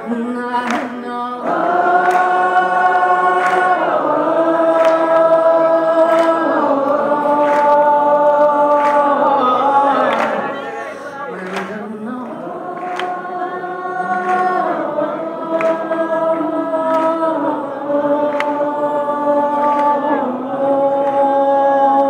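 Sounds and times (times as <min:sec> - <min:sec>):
live band with choir-like chords: 0:00.0 - 0:22.0.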